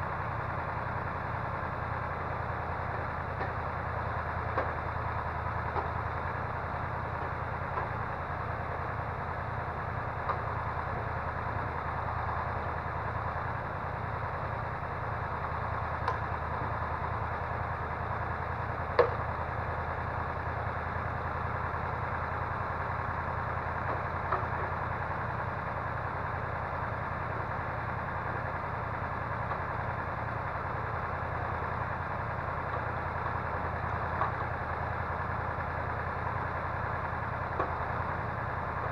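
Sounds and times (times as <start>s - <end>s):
crane truck engine running: 0.0s - 38.9s.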